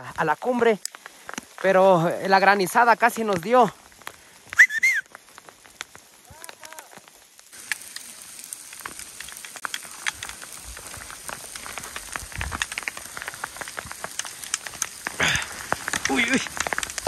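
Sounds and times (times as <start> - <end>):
hail patter: 0.0 - 17.0
steady hiss: 0.0 - 17.0.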